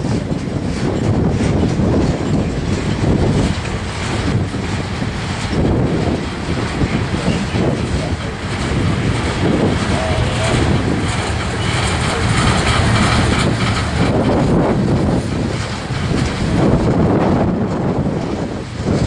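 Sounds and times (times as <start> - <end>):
train wheels rumbling on rails: 0.0 - 19.0
wind buffeting microphone: 0.0 - 19.0.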